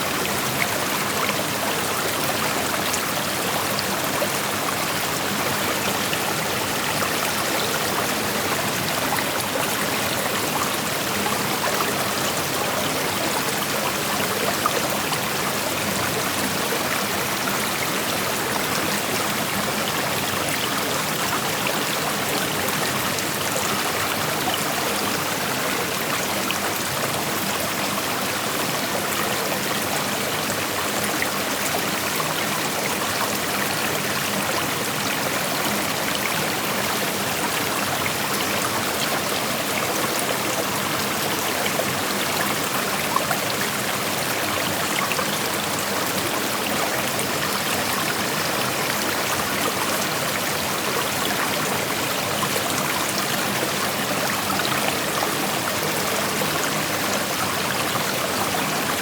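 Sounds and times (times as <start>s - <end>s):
creek water flowing over stones: 0.0s - 59.0s.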